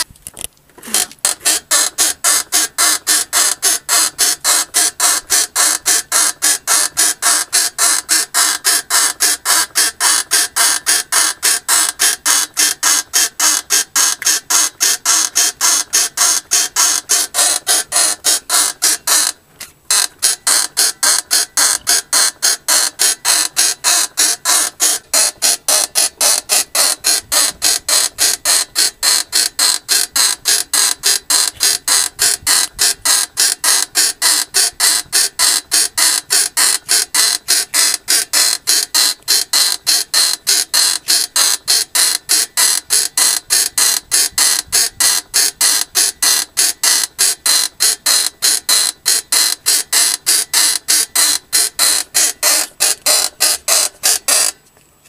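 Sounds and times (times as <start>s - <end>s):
rhythmic high-pitched car squeak: 0.8s - 54.7s.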